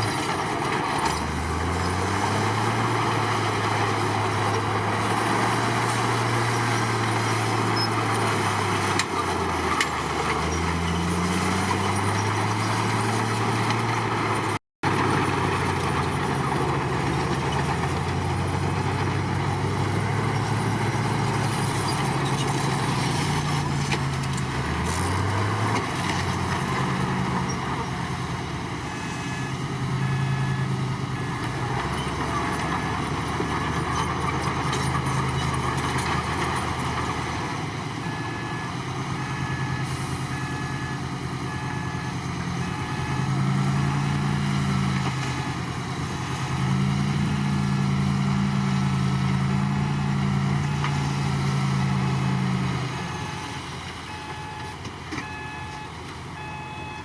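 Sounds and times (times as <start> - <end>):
bulldozer diesel engine under load: 0.0 - 57.0
track and machinery clatter: 0.0 - 57.0.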